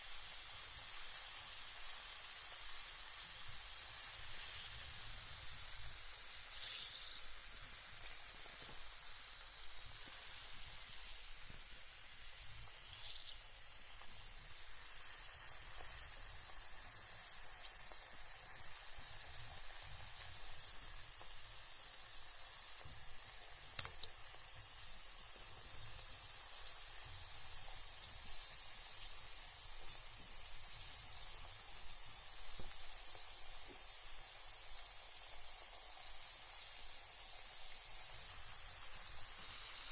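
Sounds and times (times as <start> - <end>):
bath bomb fizzing: 3.2 - 35.5.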